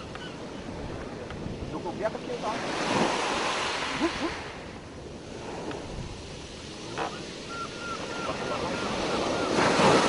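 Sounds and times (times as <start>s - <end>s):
sea water washing: 0.0s - 10.0s
wind on microphone: 0.0s - 10.0s.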